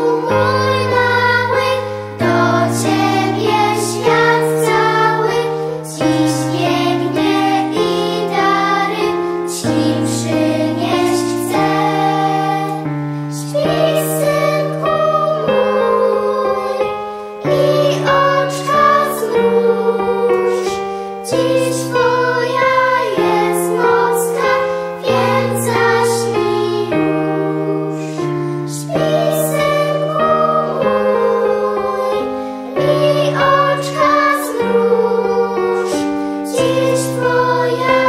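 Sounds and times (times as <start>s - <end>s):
girls choir singing: 0.0s - 38.0s
piano accompaniment: 0.0s - 38.0s.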